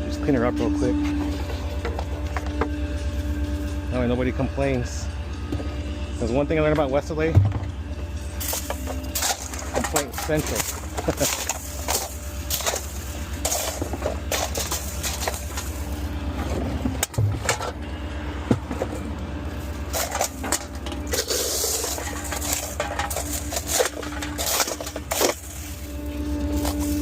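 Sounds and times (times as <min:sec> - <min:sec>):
garbage truck engine idling: 0:00.0 - 0:27.0
trash clattering and rustling: 0:00.4 - 0:03.8, 0:06.8 - 0:27.0.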